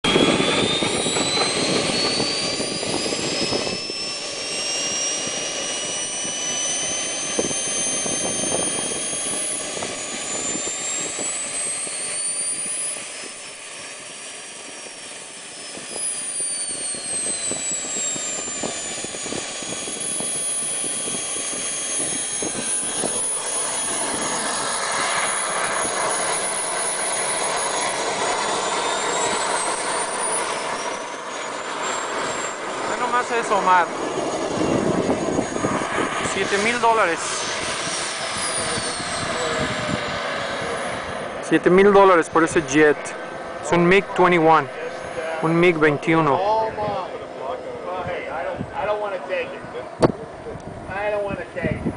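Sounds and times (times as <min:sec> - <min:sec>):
model jet turbine whine: 0:00.0 - 0:51.9.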